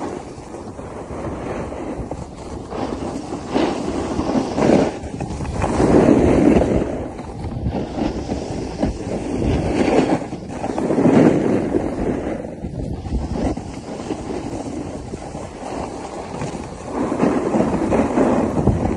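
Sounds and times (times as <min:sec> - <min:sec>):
skis scraping on packed snow: 0:00.0 - 0:18.9
wind rushing over microphone: 0:00.0 - 0:18.9.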